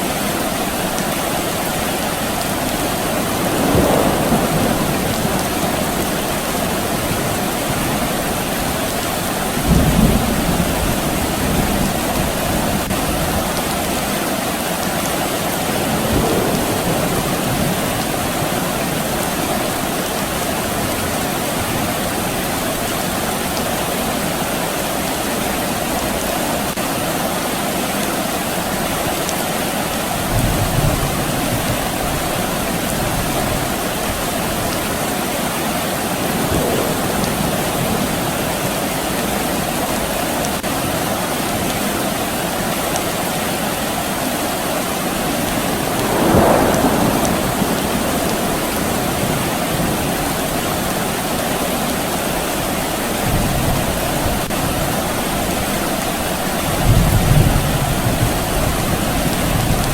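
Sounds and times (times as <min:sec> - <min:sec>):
soft rain falling: 0:00.0 - 0:59.9.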